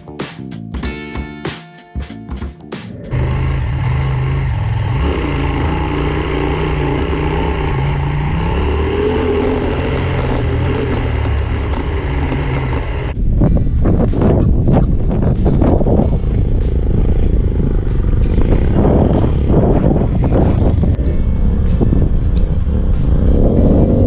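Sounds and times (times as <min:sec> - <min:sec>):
guitar music: 0:00.0 - 0:24.0
motorcycle engine running: 0:03.0 - 0:24.0.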